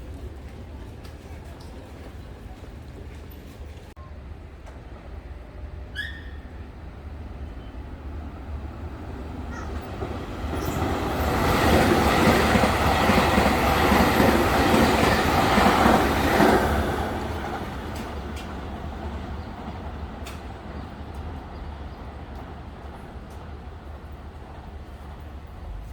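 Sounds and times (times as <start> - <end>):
electric train rumbling past: 0.0 - 25.9.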